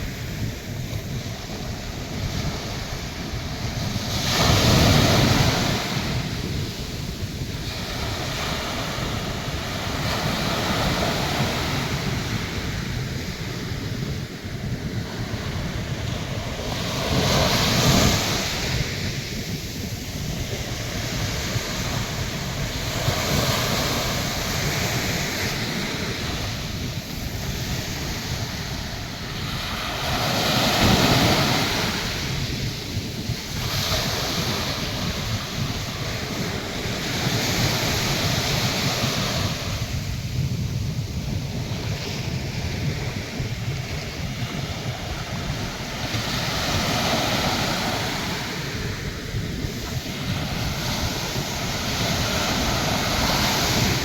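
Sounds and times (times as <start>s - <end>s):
waves breaking: 0.0s - 54.0s
wind buffeting microphone: 0.0s - 54.0s.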